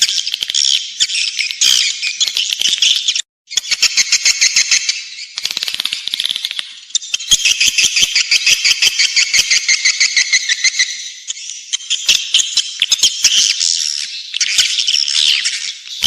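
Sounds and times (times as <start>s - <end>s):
birds twittering: 0.0s - 16.0s.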